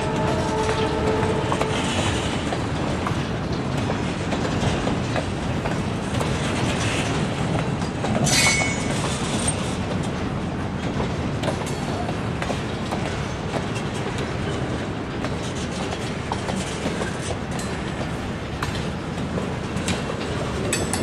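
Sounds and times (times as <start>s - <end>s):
freight train rumbling past: 0.0s - 21.0s
wheels clacking over rail joints: 0.0s - 21.0s.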